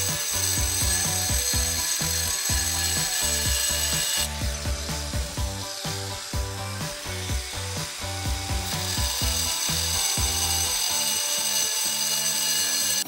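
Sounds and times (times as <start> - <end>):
background music with bass line: 0.0 - 10.9
angle grinder cutting tile: 0.0 - 13.0.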